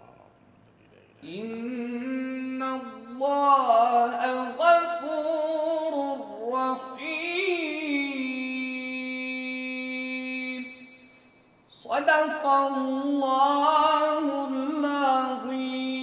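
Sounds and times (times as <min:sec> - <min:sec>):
man reciting melodically: 0:01.2 - 0:16.0.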